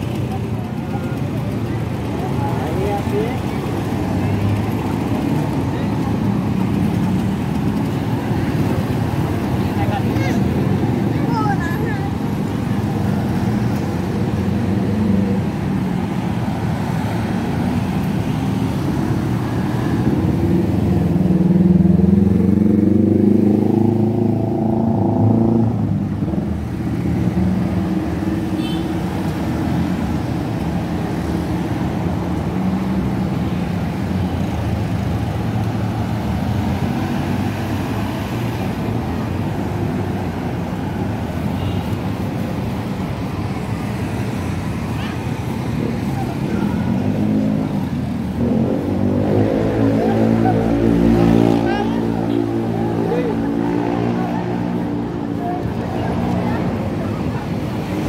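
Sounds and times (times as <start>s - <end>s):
cars and scooters driving past: 0.0s - 58.0s.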